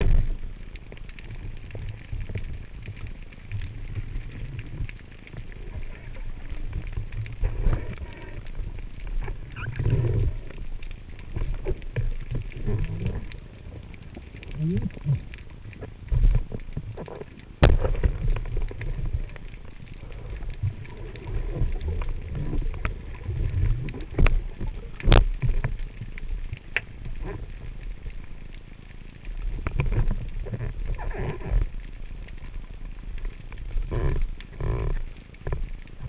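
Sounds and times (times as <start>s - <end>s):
sharp underwater cracks: 0.0s - 36.0s
underwater clicks and knocks: 0.0s - 36.0s
underwater water rumble: 0.0s - 36.0s.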